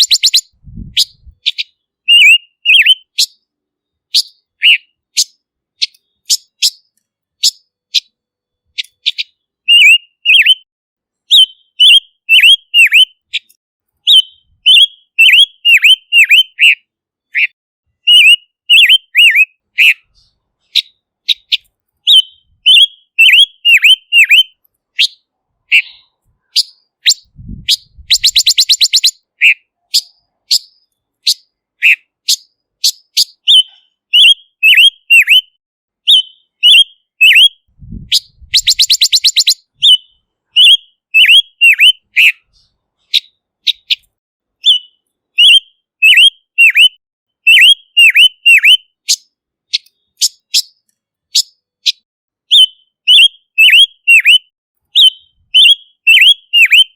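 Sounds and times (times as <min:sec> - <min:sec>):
bird whistled notes: 0:00.0 - 0:03.4, 0:04.1 - 0:08.1, 0:08.8 - 0:10.7, 0:11.3 - 0:16.8, 0:17.4 - 0:42.5, 0:44.6 - 0:56.9.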